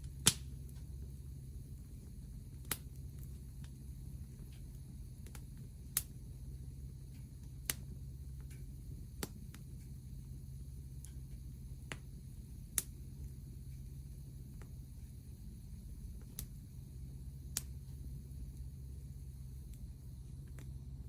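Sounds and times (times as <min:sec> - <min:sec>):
wood fire crackling and popping: 0:00.0 - 0:20.8
low steady rumble: 0:00.0 - 0:21.0.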